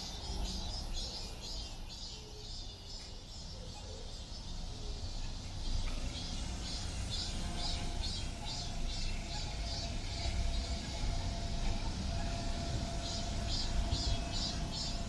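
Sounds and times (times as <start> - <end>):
insects chirping: 0.0 - 15.0
low rumble of city traffic: 0.0 - 15.0.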